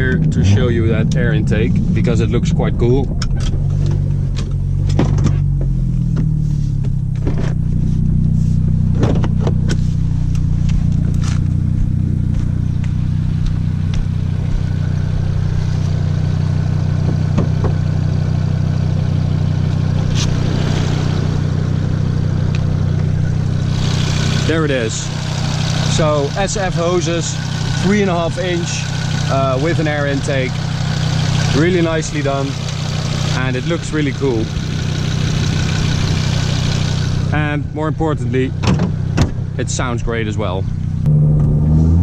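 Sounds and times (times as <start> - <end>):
car engine dropping revs and idling: 0.0 - 42.0.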